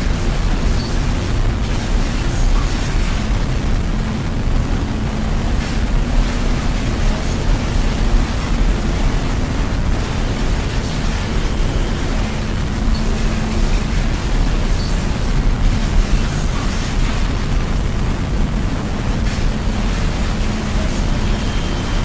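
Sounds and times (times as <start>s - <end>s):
faint low hum: 0.0s - 22.0s
rumbling noise drone: 0.0s - 22.0s.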